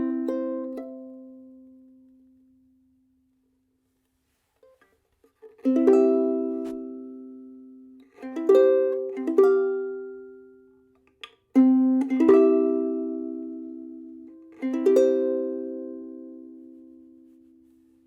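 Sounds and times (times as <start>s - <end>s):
ukulele chords strummed: 0.0s - 3.0s, 4.6s - 18.0s.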